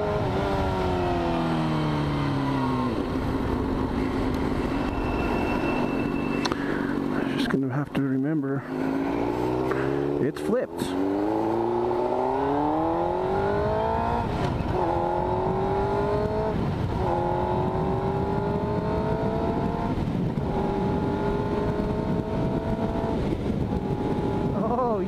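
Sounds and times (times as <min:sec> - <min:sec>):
motorcycle engine accelerating: 0:00.0 - 0:25.0
wind and road rush: 0:00.0 - 0:25.0.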